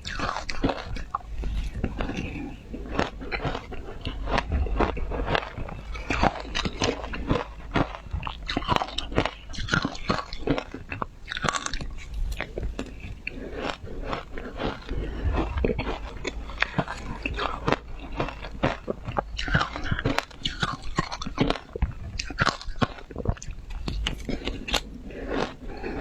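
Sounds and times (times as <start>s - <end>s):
ice being chewed: 0.0s - 26.0s.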